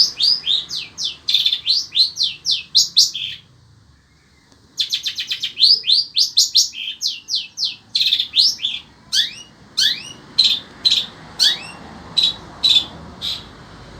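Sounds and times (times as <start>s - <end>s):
bird singing sharp high notes: 0.0s - 3.5s, 4.2s - 13.5s.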